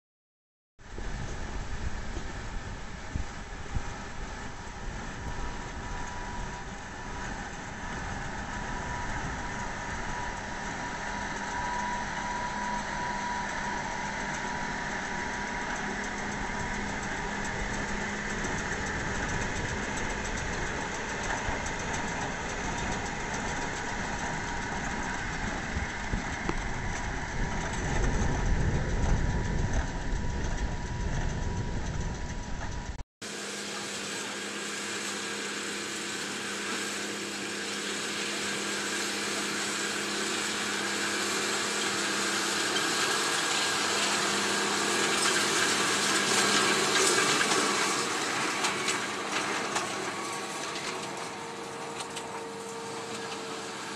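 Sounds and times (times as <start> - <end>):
tractor humming steadily: 0.8 - 53.9
tractor engine under load: 0.9 - 53.9.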